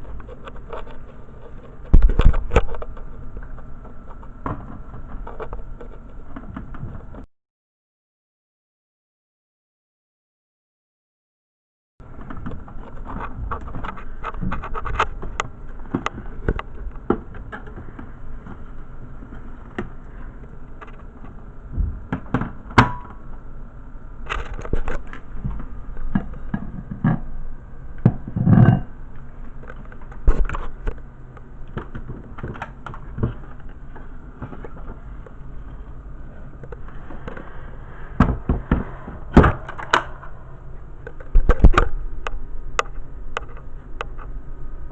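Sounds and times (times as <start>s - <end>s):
steady low hum: 0.0s - 7.3s, 12.0s - 44.9s.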